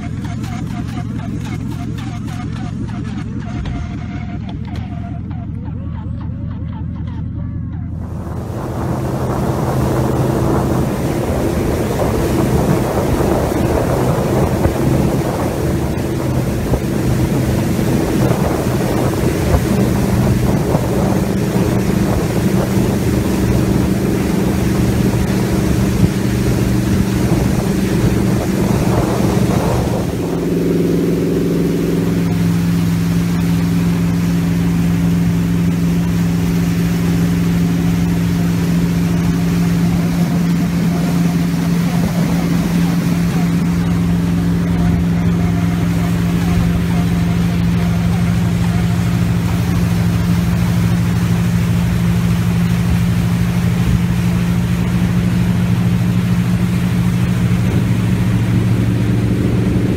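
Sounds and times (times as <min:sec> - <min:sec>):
motorboat engine humming: 0:00.0 - 0:59.9
wind on microphone: 0:07.9 - 0:59.9
water rushing past hull: 0:08.0 - 0:59.9.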